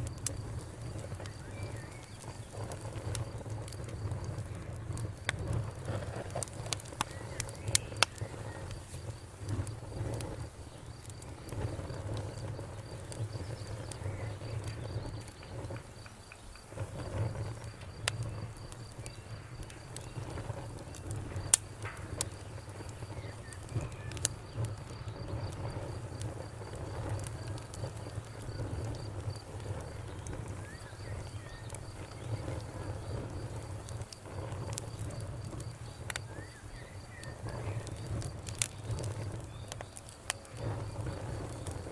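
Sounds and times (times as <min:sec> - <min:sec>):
crickets chirping: 0:00.0 - 0:41.9
wood fire crackling and popping: 0:00.0 - 0:41.9.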